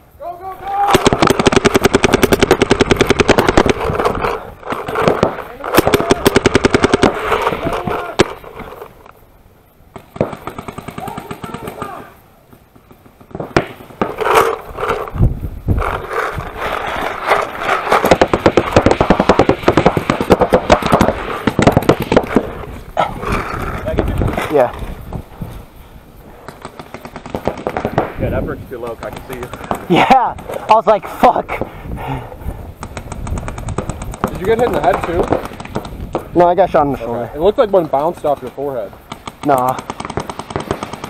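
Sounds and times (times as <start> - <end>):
paintball guns firing rapidly: 0.6 - 8.7, 9.9 - 15.2, 15.8 - 24.7, 26.5 - 30.9, 32.8 - 41.0.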